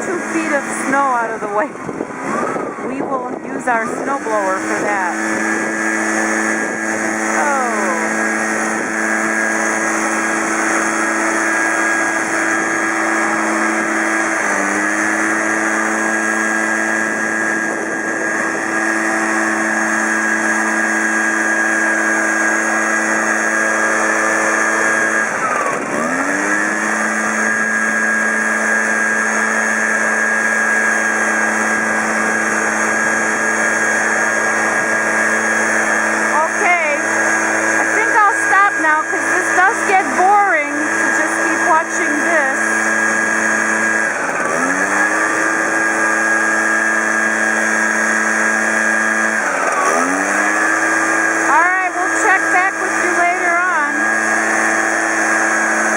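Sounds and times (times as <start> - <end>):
leaf blower running: 0.0 - 55.9.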